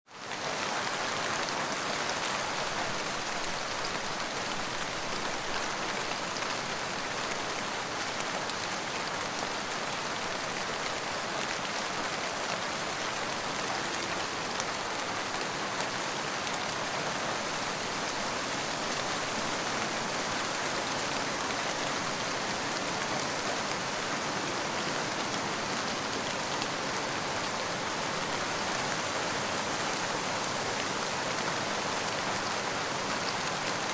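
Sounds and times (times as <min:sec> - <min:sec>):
rain pattering: 0:00.2 - 0:33.9.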